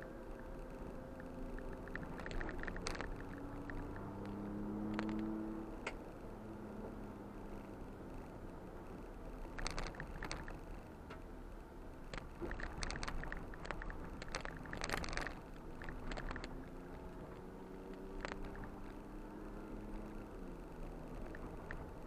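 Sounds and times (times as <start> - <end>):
vehicle rattling over rough ground: 0.0 - 6.2, 6.8 - 22.0
vehicle engine running: 0.0 - 22.0.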